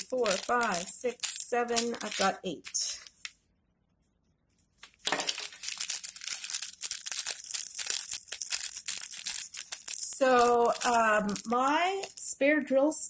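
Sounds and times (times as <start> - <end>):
plastic bags crinkling: 0.0 - 3.4, 4.7 - 12.3.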